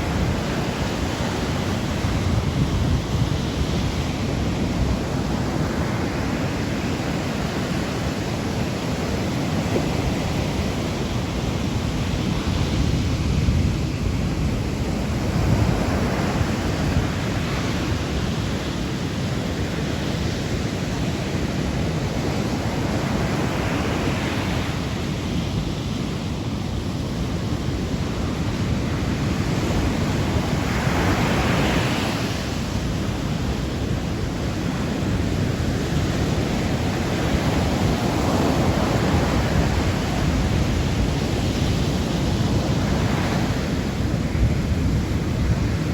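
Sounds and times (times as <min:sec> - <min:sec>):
sea waves washing onto shore: 0:00.0 - 0:45.9.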